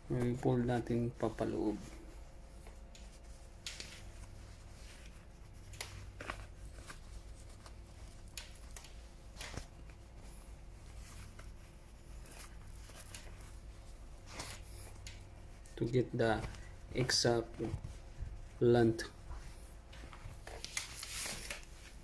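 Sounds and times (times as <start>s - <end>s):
fabric rustling: 0.0s - 22.0s
steady low hum: 0.0s - 22.0s.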